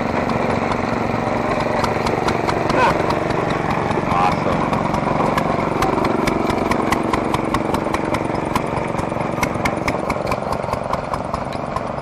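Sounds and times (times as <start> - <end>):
engine running with sharp clicks: 0.0 - 12.0.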